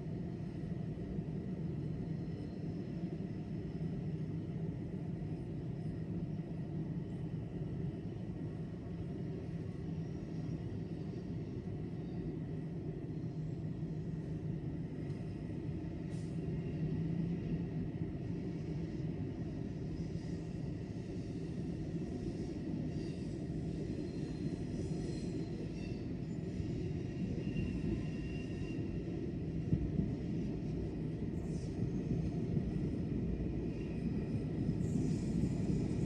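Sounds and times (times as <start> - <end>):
railway station rumble: 0.0 - 36.0.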